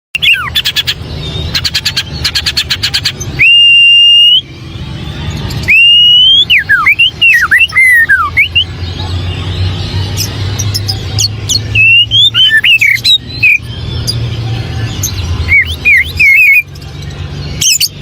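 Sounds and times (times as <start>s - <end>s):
bird singing whistled notes: 0.2s - 4.6s, 5.3s - 18.0s.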